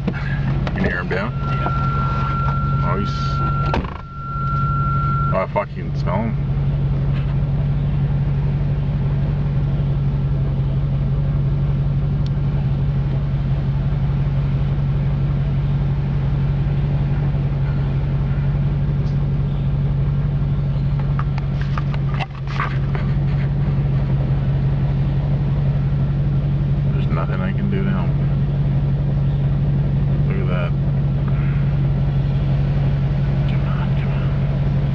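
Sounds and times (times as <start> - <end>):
engine idling hum: 0.0 - 34.9.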